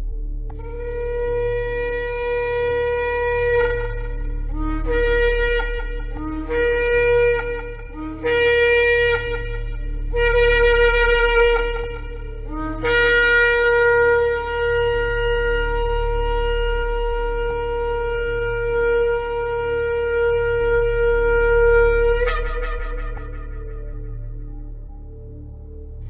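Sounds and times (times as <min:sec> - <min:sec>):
shofar blasts: 0:00.6 - 0:24.8.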